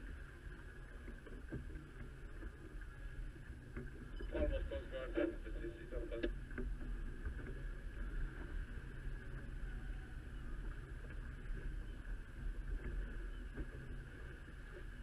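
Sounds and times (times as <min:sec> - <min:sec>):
water washing along hull: 0:00.0 - 0:15.0.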